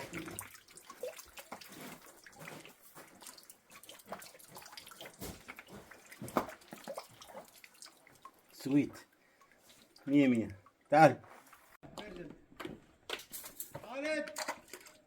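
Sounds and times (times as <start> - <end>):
water dripping and trickling: 0.0 - 11.7, 13.1 - 15.0.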